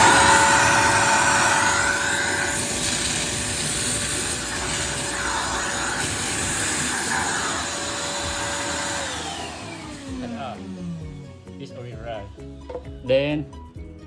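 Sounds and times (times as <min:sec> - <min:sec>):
wet vacuum running: 0:00.0 - 0:11.4.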